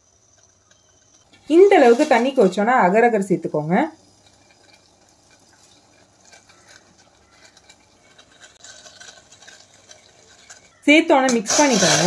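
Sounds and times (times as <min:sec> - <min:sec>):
pot ticking: 0:00.0 - 0:12.0.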